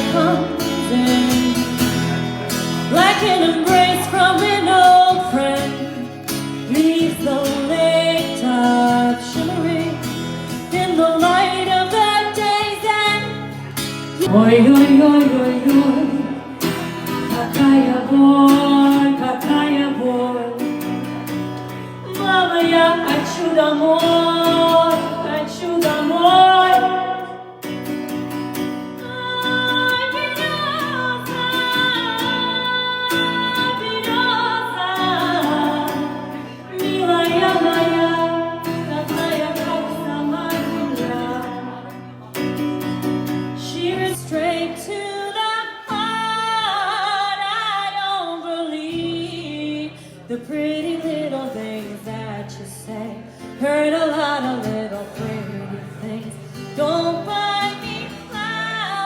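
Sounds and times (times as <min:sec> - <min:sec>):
guitar accompaniment: 0:00.0 - 0:59.0
woman singing: 0:00.0 - 0:59.0.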